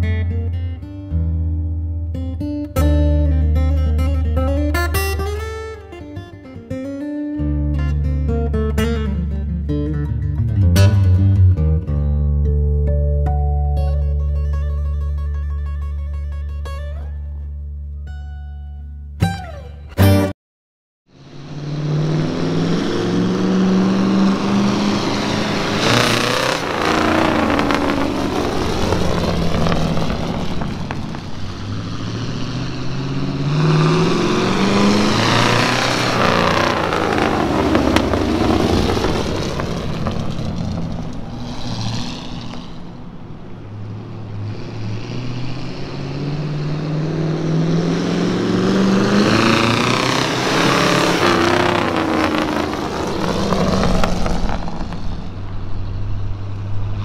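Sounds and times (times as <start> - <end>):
truck engine accelerating: 0.0 - 18.0, 21.1 - 57.0.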